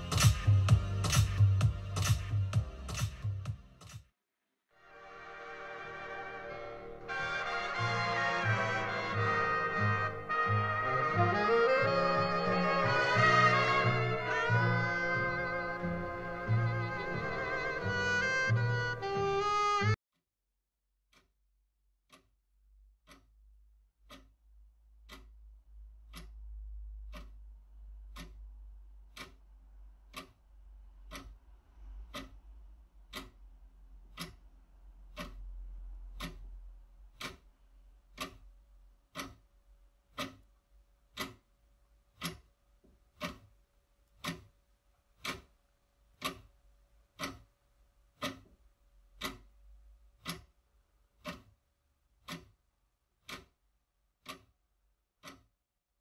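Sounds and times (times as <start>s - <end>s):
clock ticking: 0.0s - 4.0s, 7.1s - 20.0s, 22.1s - 55.6s.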